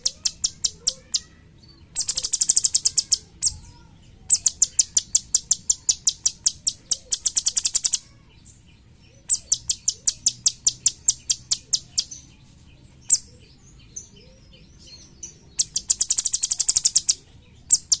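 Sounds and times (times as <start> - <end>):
songbird chirping rapidly: 0.0 - 18.0.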